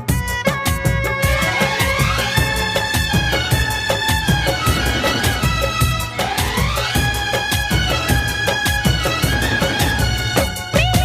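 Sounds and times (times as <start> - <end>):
indian-style music with steady beat: 0.0 - 11.0.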